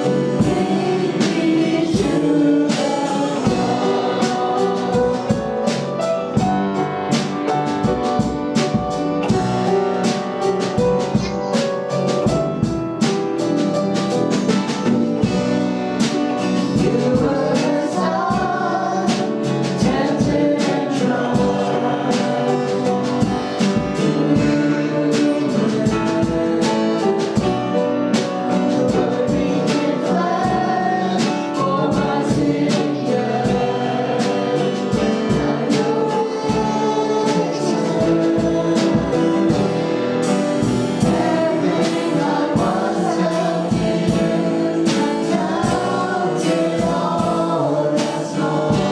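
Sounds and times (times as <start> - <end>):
full band with drums: 0.0 - 48.9
group singing gospel music: 0.0 - 48.9.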